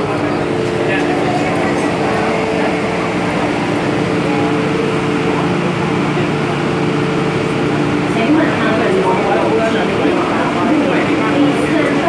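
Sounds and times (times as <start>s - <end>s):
droning tones: 0.0s - 12.0s
train air conditioning hum: 0.0s - 12.0s.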